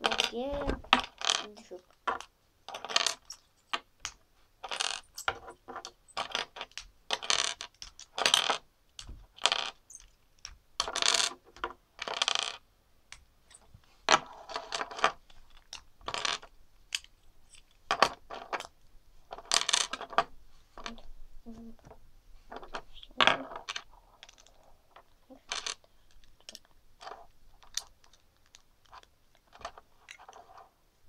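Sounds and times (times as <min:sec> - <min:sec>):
plastic bricks clicking and clattering: 0:00.0 - 0:21.1, 0:21.7 - 0:30.7.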